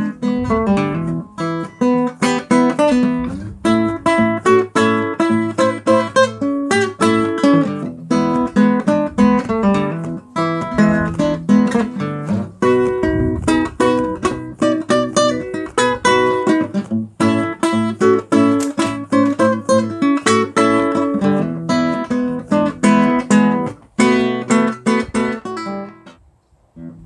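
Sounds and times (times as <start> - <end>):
acoustic blues guitar: 0.0 - 26.2.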